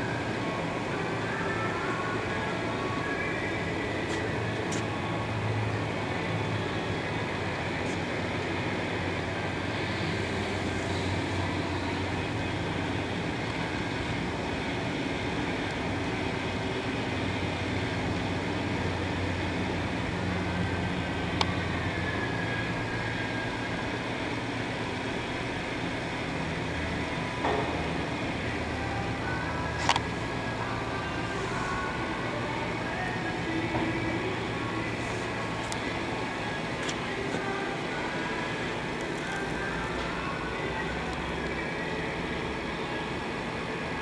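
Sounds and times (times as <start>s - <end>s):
machinery hum: 0.0s - 44.0s.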